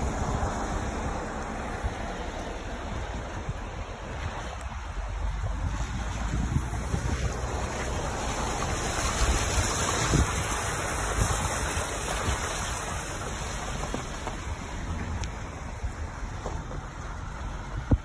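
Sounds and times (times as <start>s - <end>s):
rushing floodwater: 0.0s - 18.0s
wind buffeting microphone: 0.0s - 18.0s.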